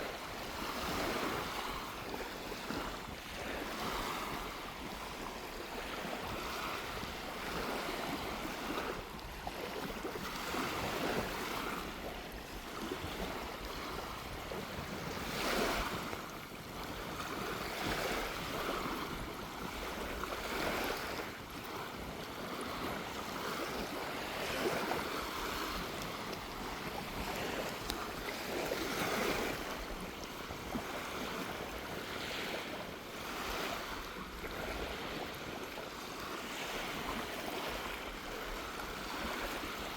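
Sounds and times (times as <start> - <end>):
waves washing onto sandy beach: 0.0 - 39.9
wind on microphone: 0.0 - 39.9.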